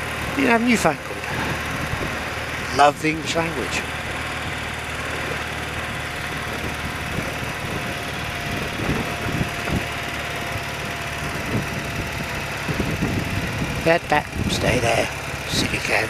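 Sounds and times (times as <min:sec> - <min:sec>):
motorcycle engine running: 0:00.0 - 0:16.0
wind and road noise: 0:00.0 - 0:16.0
low thumps: 0:01.0 - 0:14.8.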